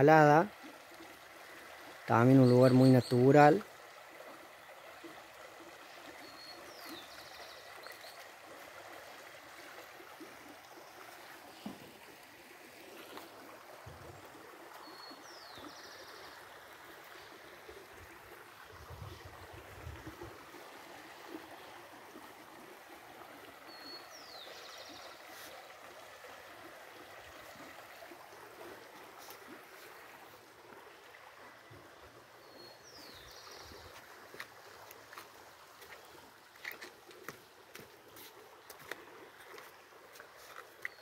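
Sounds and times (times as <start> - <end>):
shallow rocky creek rushing: 0.0 - 41.0.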